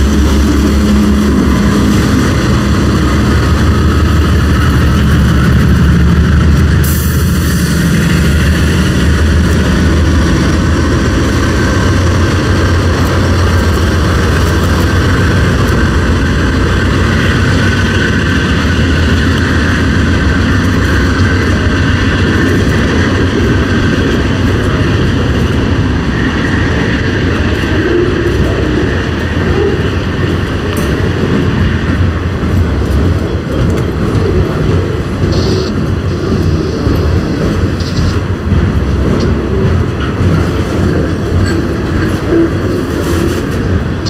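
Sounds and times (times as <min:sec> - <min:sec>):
diesel locomotives running: 0:00.0 - 0:44.0
train cars rumbling on rails: 0:00.0 - 0:44.0.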